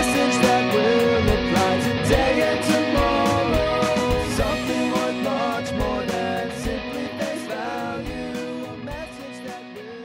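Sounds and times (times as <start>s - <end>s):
strummed guitar music: 0.0s - 10.0s.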